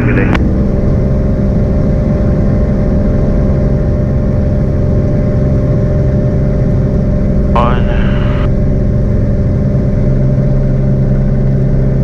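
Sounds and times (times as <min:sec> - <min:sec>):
aircraft engine and propeller droning: 0:00.0 - 0:12.0.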